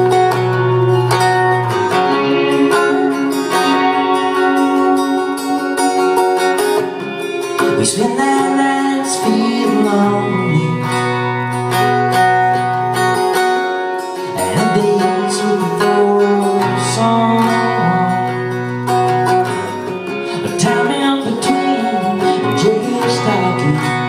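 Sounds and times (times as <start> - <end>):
band playing a song: 0.0 - 24.0
strummed acoustic guitar: 0.0 - 24.0.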